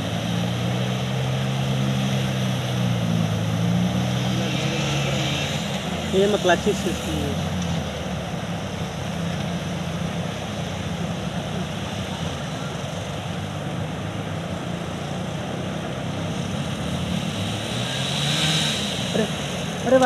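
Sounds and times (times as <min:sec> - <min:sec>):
floodwater rushing: 0:00.0 - 0:20.0
motorcycle engines droning: 0:00.0 - 0:20.0.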